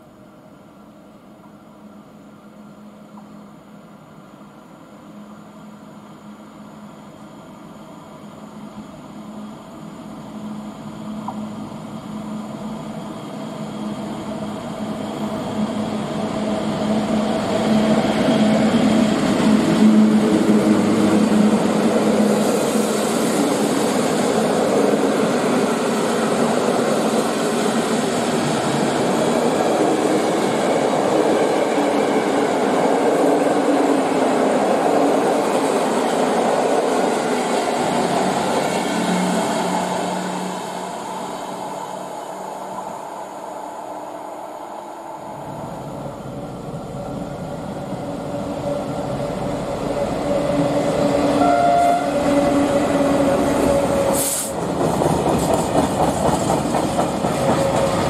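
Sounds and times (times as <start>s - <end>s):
train wheels rumbling on rails: 8.6s - 43.7s, 45.1s - 58.0s.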